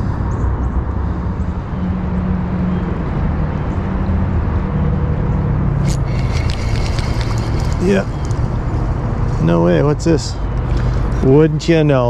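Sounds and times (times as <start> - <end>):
faint engine hum: 0.0 - 12.0
low rumble of traffic: 0.0 - 12.0.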